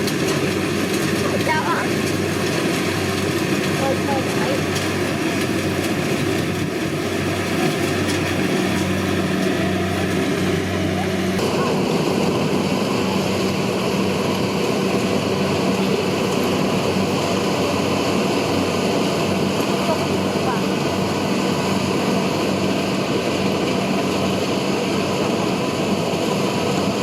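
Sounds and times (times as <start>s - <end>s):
combine harvester engine drone: 0.0s - 27.0s.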